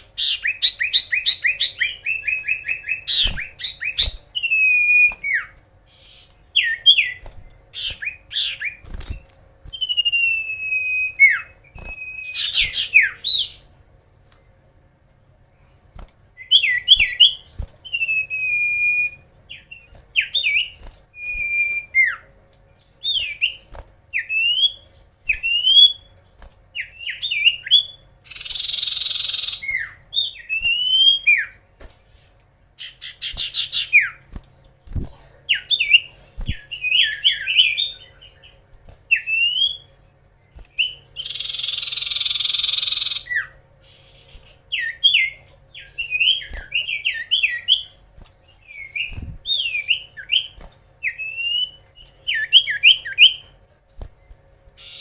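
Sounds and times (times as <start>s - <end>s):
bird whistled song: 0.0s - 13.6s, 16.4s - 22.3s, 23.0s - 26.2s, 26.8s - 31.6s, 32.8s - 34.2s, 35.5s - 40.0s, 40.6s - 53.5s.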